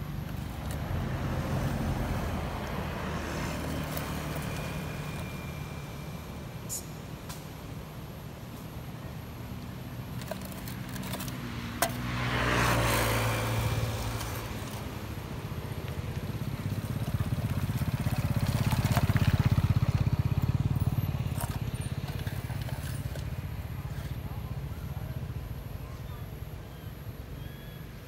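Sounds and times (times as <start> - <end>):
passing vehicle engine hum: 0.0 - 7.4, 9.8 - 27.0.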